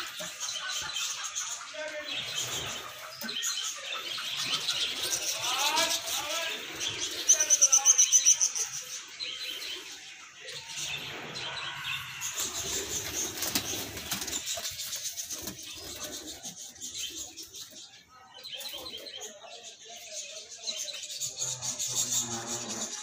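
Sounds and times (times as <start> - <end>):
parakeets calling: 0.0 - 23.0.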